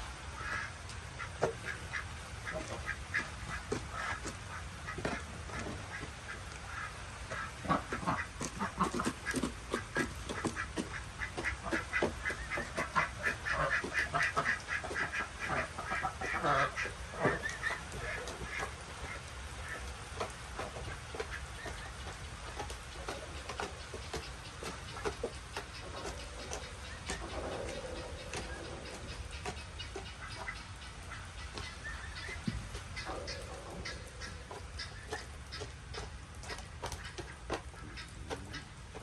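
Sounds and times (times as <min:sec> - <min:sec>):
ducks quacking: 0:00.2 - 0:39.0.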